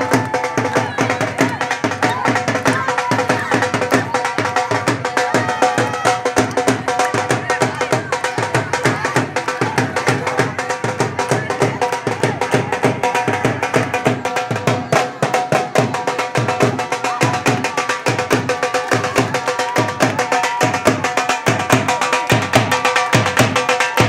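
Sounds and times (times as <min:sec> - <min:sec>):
dhol drum beating: 0:00.0 - 0:24.0.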